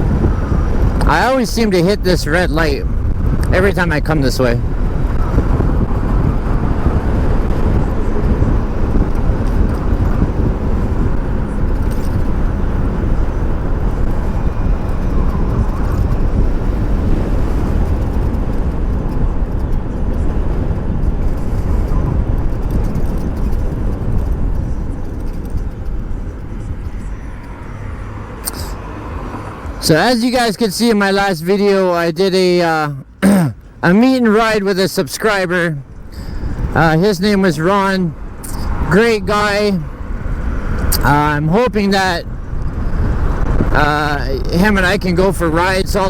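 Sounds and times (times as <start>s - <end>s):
wind on microphone: 0.0s - 31.8s, 33.0s - 46.0s
road rumble: 0.0s - 46.0s.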